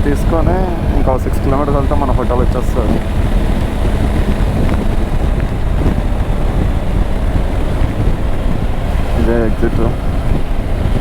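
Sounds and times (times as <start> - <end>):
motorcycle engine: 0.0 - 11.0
road noise: 0.0 - 11.0
wind rush on microphone: 0.0 - 11.0.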